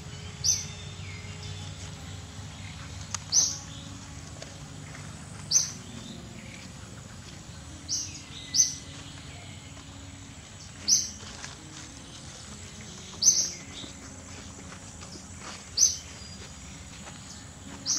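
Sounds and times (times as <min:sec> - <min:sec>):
low outdoor hum: 0:00.0 - 0:17.9.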